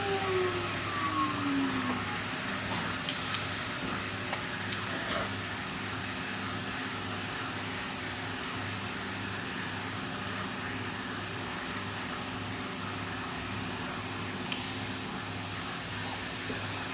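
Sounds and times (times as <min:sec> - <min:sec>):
cnc router hiss and whir: 0:00.0 - 0:16.9
low machine hum: 0:00.0 - 0:16.9.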